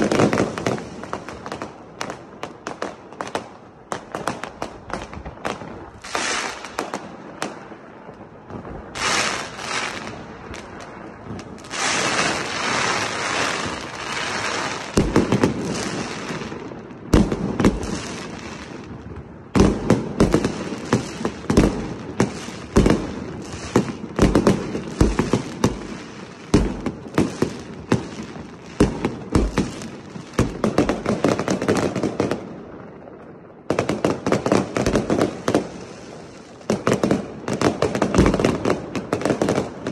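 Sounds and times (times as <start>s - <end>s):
fireworks hissing and crackling: 0.0s - 39.9s.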